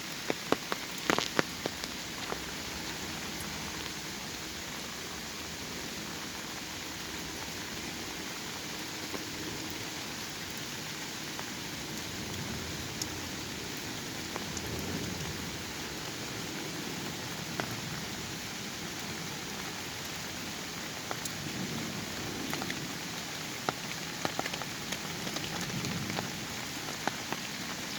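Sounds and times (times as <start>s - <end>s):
rain falling in a forest: 0.0s - 27.9s.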